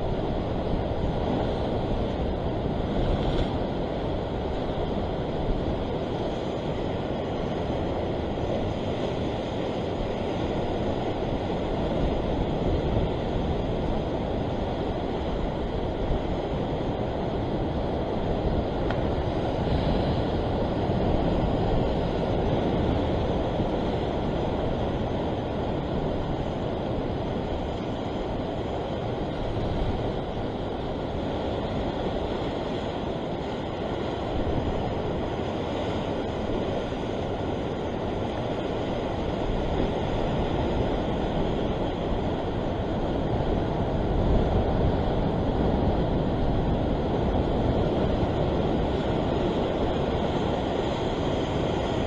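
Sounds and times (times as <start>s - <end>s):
ocean swell breaking on rocks: 0.0s - 52.0s
wind rumbling on microphone: 0.0s - 52.0s.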